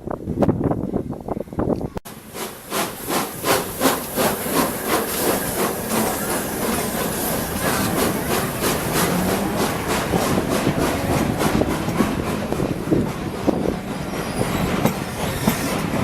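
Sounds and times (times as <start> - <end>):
rail noise: 0.0 - 16.0
train passing with rhythmic strokes: 0.0 - 16.0.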